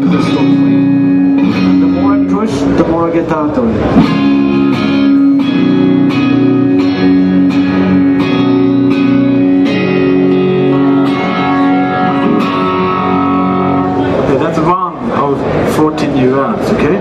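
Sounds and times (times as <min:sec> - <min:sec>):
distorted electric guitar chords: 0:00.0 - 0:15.7.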